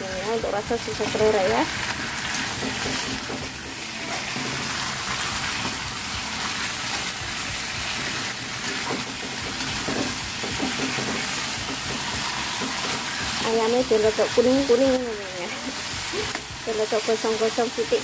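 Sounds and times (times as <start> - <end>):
chicken sizzling in a wok: 0.0 - 18.0
spatula scraping a pan: 0.9 - 16.4.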